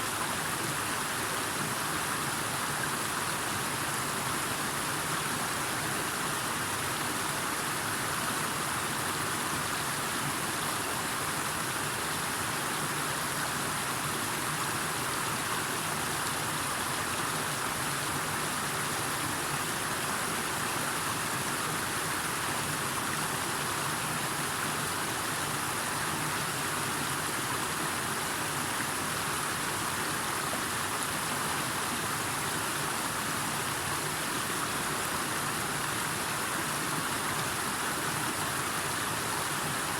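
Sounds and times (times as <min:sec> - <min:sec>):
steady hiss of running water: 0:00.0 - 0:39.9.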